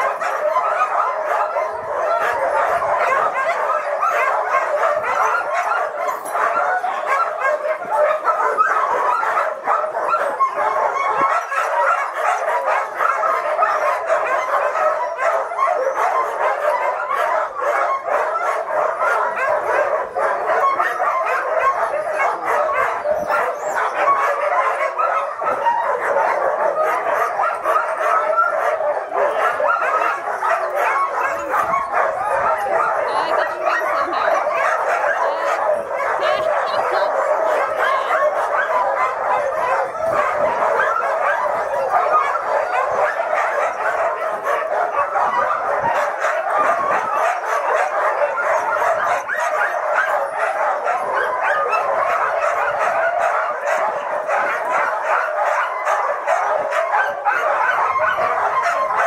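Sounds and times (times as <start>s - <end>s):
sled dogs barking: 0.0s - 59.0s.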